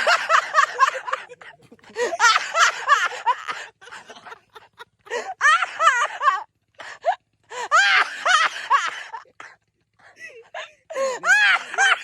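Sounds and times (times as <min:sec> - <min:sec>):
young men laughing: 0:00.0 - 0:12.0.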